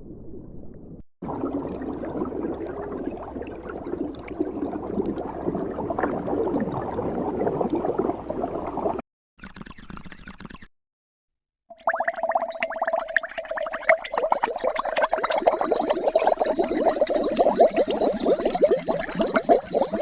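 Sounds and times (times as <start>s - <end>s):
water bubbling and gurgling: 1.2s - 9.0s, 11.7s - 20.0s.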